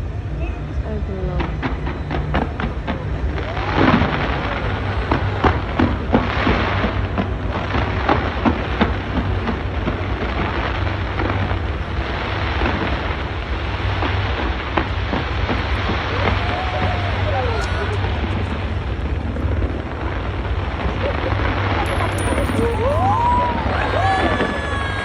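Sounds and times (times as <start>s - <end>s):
low rumble: 0.0s - 25.0s
fireworks bangs and crackling: 1.0s - 25.0s.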